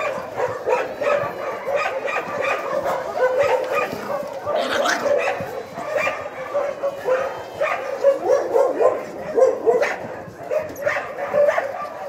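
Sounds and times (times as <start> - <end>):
puppies yipping in play: 0.0 - 10.0.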